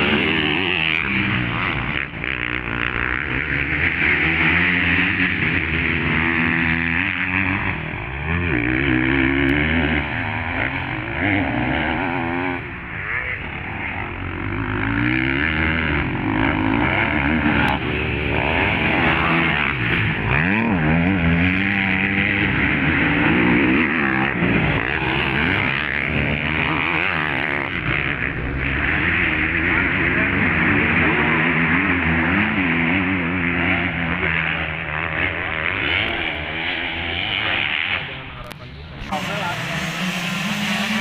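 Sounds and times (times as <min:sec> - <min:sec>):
motocross motorcycles revving: 0:00.0 - 0:41.0.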